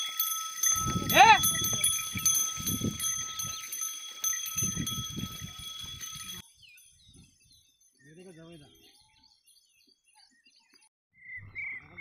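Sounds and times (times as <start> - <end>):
bells jingling: 0.0 - 9.7.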